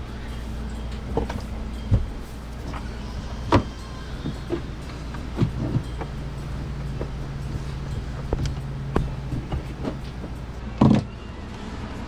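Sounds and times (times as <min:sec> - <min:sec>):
knocks and clunks: 0:00.0 - 0:10.6
steady low hum: 0:00.0 - 0:10.6.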